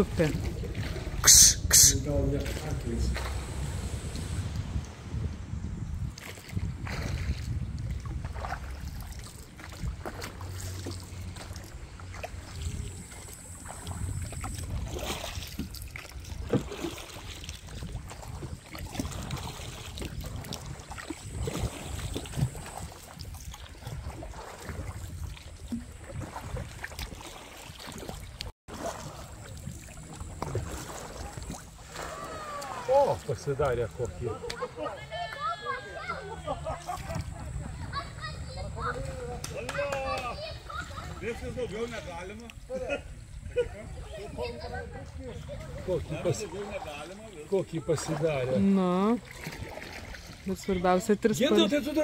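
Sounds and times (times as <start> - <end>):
wind rumble on microphone: 0.0 - 32.9, 36.5 - 47.0
paddle strokes and splashes: 0.0 - 52.0.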